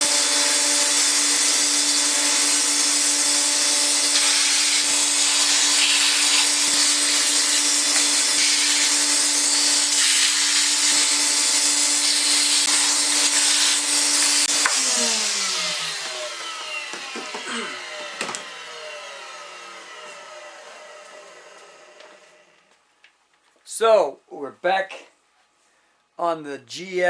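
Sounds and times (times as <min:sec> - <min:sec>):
electric motor hissing and humming: 0:00.0 - 0:22.5.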